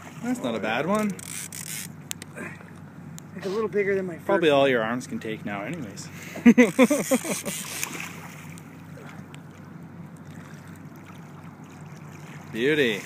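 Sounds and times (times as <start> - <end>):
wind and water wash: 0.0 - 2.8, 4.4 - 13.0
boat engine idling: 0.0 - 13.0.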